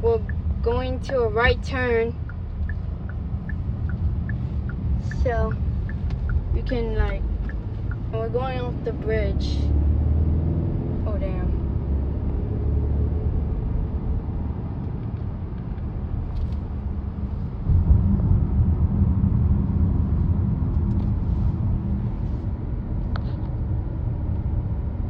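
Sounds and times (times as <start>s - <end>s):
car road noise inside cabin: 0.0s - 25.0s.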